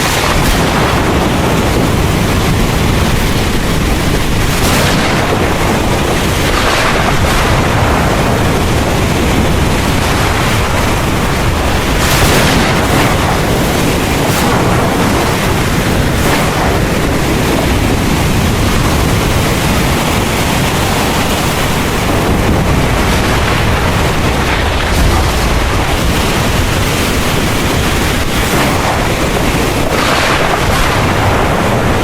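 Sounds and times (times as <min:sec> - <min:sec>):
heavy rain pouring: 0:00.0 - 0:32.0
low rolling thunder: 0:00.0 - 0:32.0.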